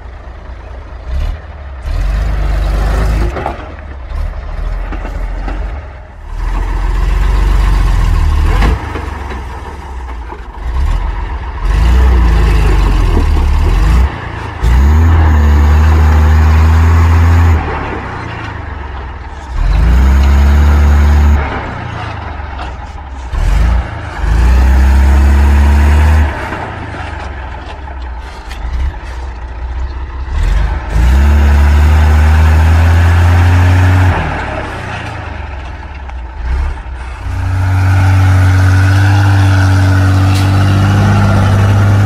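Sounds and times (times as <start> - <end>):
truck engine revving: 0.0 - 42.0.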